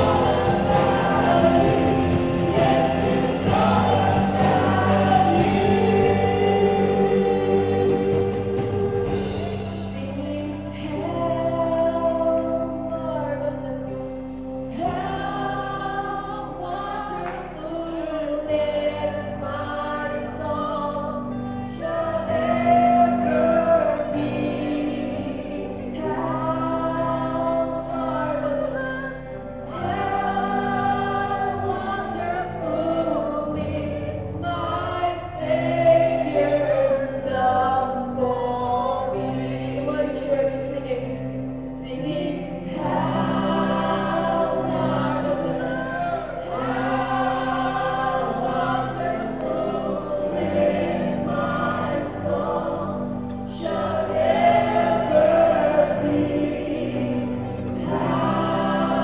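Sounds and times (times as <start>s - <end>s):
voices singing a hymn: 0.0s - 59.0s
worship band playing: 0.0s - 59.0s.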